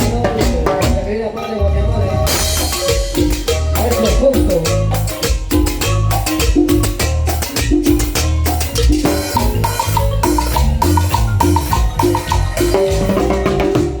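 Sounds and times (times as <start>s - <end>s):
bass and drums beat: 0.0s - 1.2s, 2.3s - 14.0s
marimba playing latin dance music: 0.0s - 14.0s.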